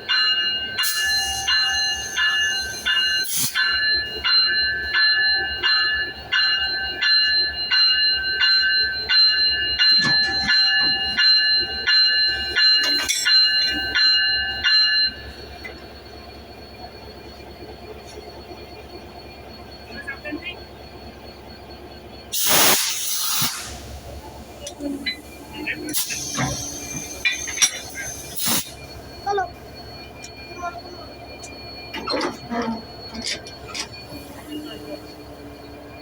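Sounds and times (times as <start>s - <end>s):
railway warning bell ringing: 0.0s - 36.0s.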